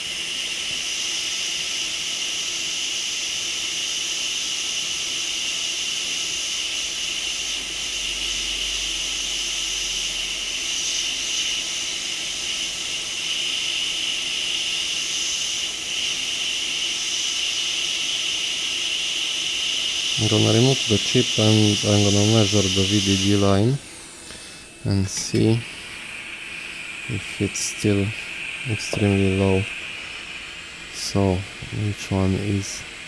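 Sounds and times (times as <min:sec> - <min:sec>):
hot air blower hissing: 0:00.0 - 0:33.0.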